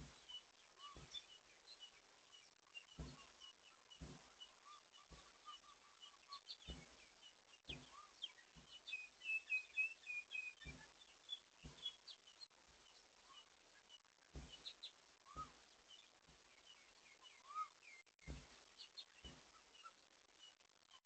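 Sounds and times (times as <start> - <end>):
soft low thumps: 0.0 - 20.3
small birds chirping: 0.0 - 21.0.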